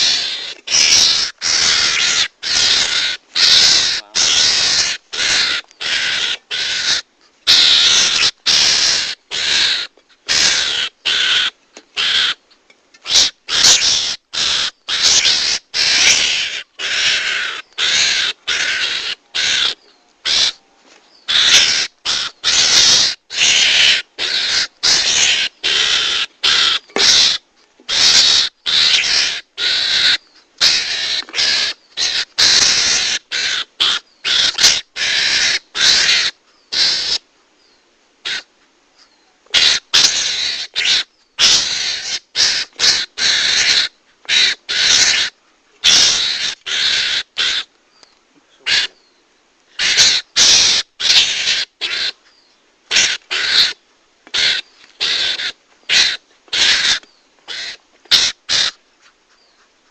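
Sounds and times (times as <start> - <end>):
harsh raspy screeching calls: 0.0 - 12.4, 13.0 - 20.6, 21.3 - 37.2, 38.2 - 47.7, 48.6 - 49.0, 49.7 - 59.9.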